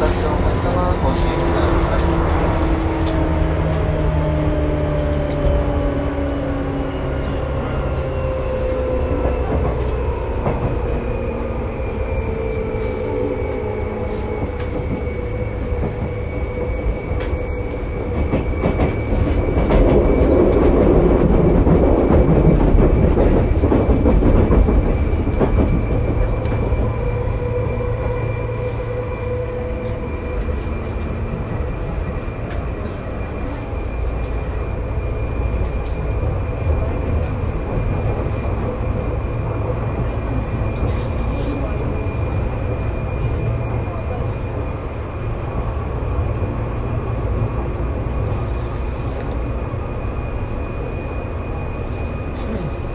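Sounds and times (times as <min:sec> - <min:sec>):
train wheel and motor noise: 0:00.0 - 0:52.9.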